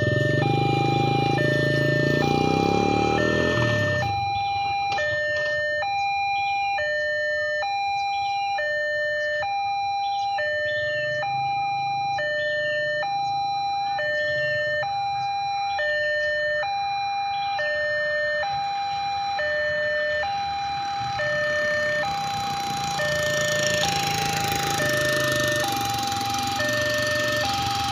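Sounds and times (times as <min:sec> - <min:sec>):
level-crossing two-tone alarm: 0:00.0 - 0:27.9.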